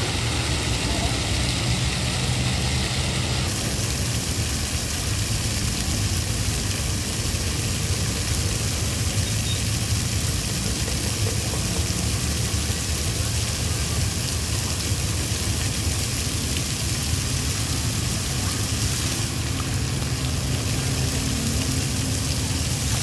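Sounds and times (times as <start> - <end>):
fountain jets splashing: 0.0 - 23.0.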